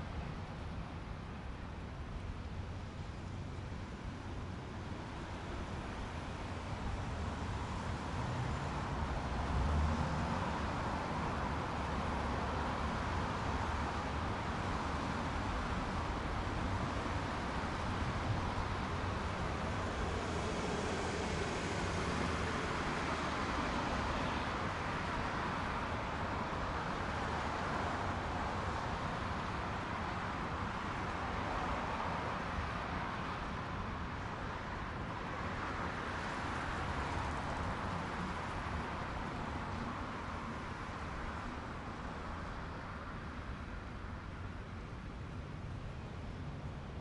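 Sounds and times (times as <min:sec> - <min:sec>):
road traffic noise: 0:00.0 - 0:47.0
passing cars: 0:04.9 - 0:47.0.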